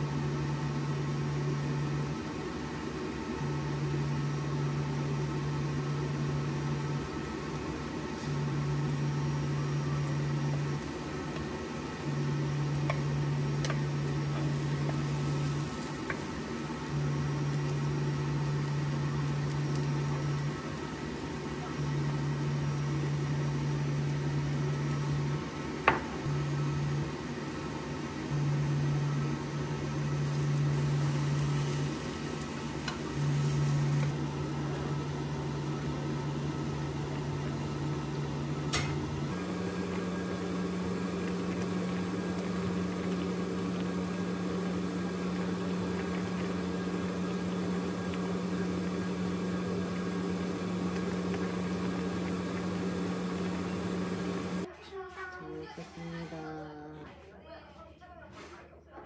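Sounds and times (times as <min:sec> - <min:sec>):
induction cooktop humming: 0:00.0 - 0:58.2.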